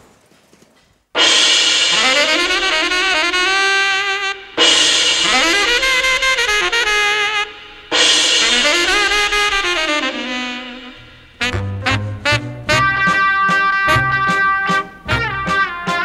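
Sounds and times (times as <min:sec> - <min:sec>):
instrumental melody: 0:01.2 - 0:16.0.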